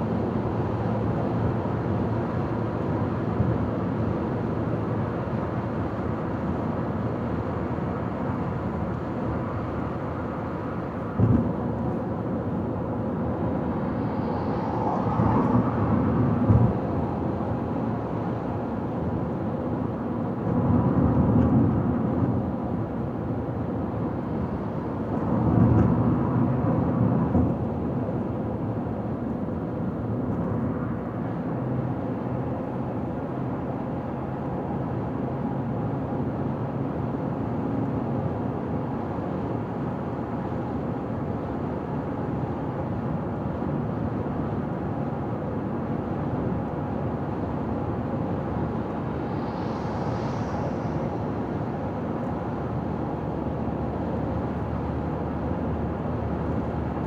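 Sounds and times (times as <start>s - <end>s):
car driving on highway: 0.0s - 57.0s.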